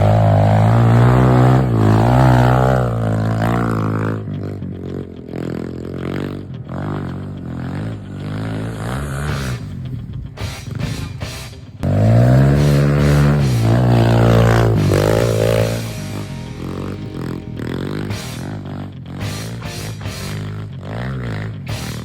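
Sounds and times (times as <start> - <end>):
small motorbike engine revving: 0.0 - 22.0.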